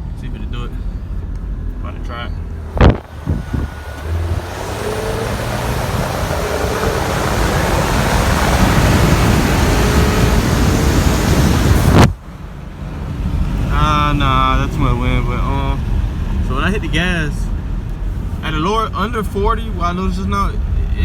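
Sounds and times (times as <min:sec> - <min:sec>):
car engine accelerating: 0:00.0 - 0:21.0
road and wind noise: 0:00.0 - 0:21.0.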